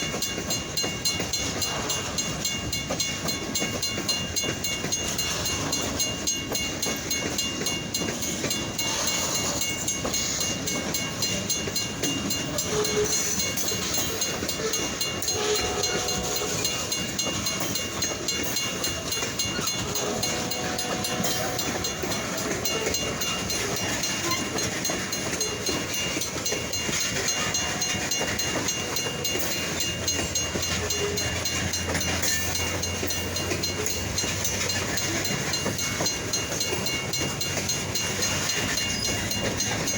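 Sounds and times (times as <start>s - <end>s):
train wheels clattering on track: 0.0s - 39.9s.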